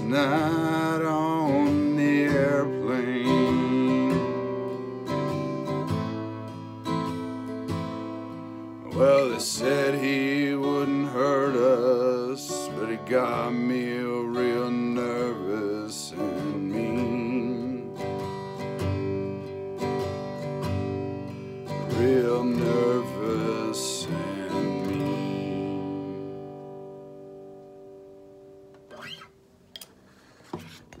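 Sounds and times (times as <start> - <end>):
acoustic guitar strumming: 0.0 - 29.4.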